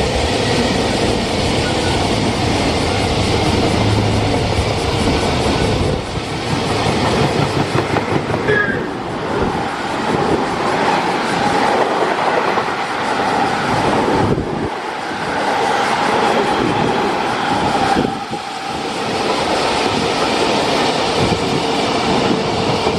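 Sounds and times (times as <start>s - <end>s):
freight train passing: 0.0s - 22.9s.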